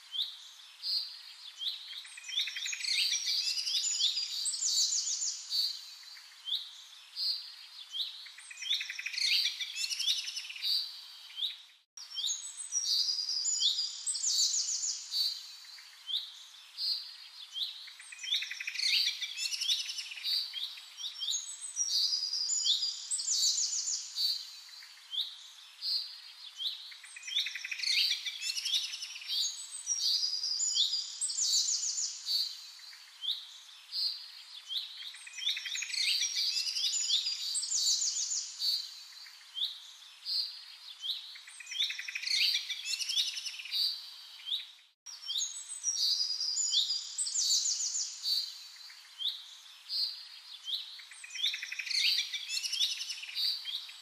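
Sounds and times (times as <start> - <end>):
birds chirping and trilling: 0.1 - 54.0.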